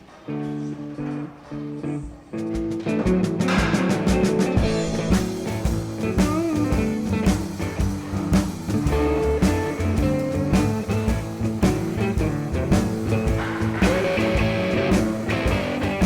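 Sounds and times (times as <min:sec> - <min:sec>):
instrumental rock music: 0:00.5 - 0:16.0.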